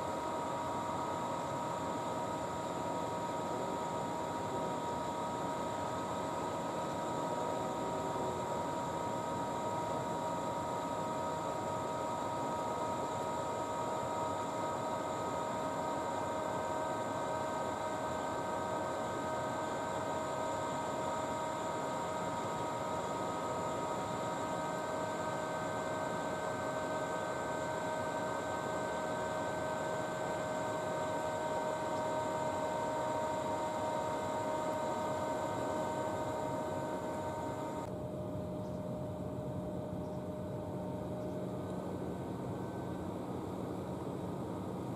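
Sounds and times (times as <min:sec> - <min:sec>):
electrical equipment humming: 0:00.0 - 0:44.9.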